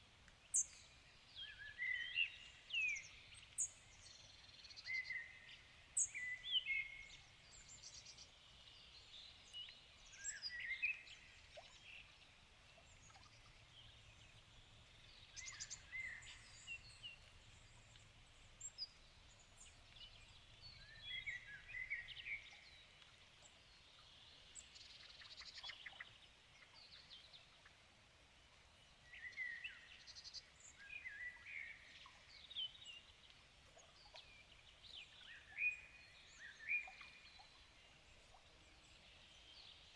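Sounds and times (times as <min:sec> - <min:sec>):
songbirds singing: 0:00.4 - 0:27.6, 0:29.0 - 0:39.9.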